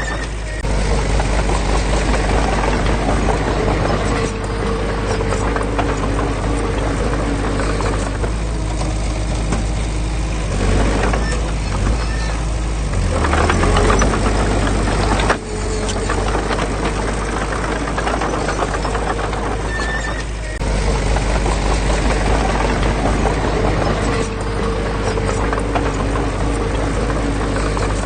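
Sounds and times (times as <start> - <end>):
heavy diesel machinery rumbling: 0.0 - 28.0
metallic clatter: 0.0 - 28.0
steady machine whine: 0.0 - 28.0.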